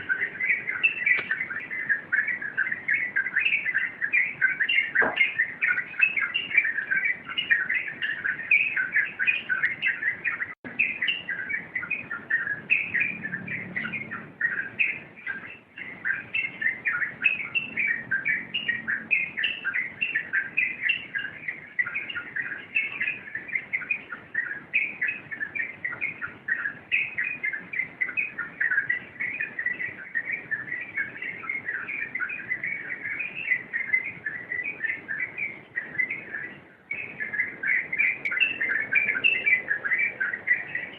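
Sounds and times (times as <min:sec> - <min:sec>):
bird singing rapid chirps: 0:00.0 - 0:40.9.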